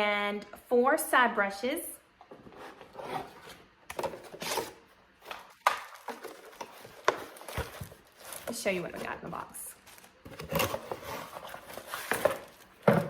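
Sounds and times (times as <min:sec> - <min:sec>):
rustling handling noise: 0:02.3 - 0:13.0.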